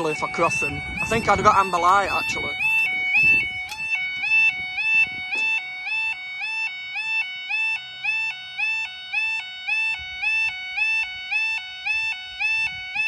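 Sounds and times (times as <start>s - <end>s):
two-tone crossing alarm: 0.0s - 13.0s.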